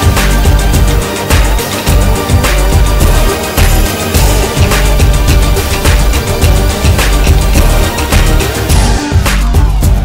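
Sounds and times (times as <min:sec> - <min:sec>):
music with heavy beat: 0:00.0 - 0:10.0.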